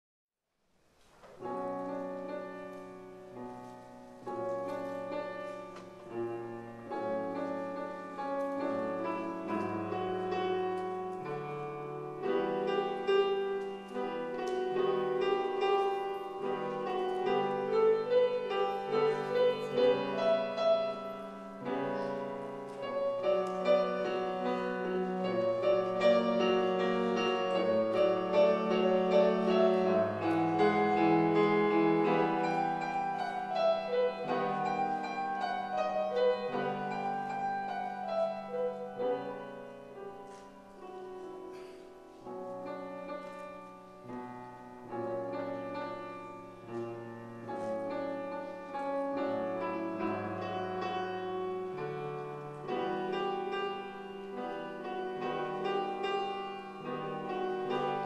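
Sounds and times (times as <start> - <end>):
slow grand piano piece: 0.6 - 58.0.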